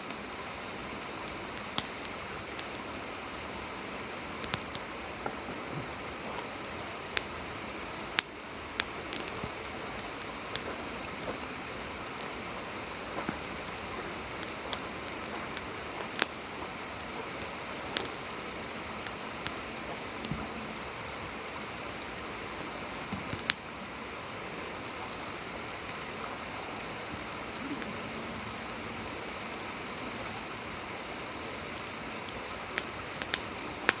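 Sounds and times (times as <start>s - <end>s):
burning wood crackling and popping: 0.0s - 34.0s
wood fire hissing: 0.0s - 34.0s.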